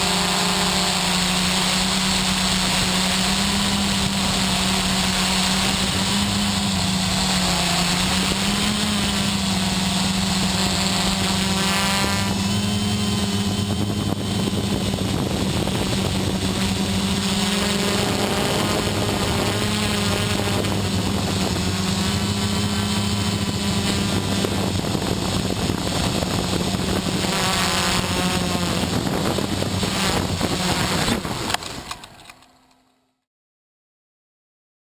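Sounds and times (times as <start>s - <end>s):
quadcopter motors buzzing: 0.0s - 33.1s.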